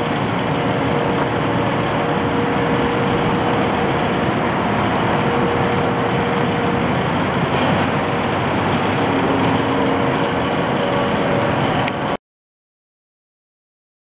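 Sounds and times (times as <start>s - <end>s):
faint whining tones: 0.0s - 12.2s
machinery running: 0.0s - 12.2s.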